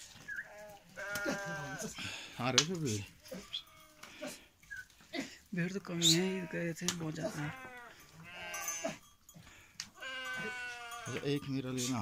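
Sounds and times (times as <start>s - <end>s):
sheep and goats bleating: 0.2s - 12.0s.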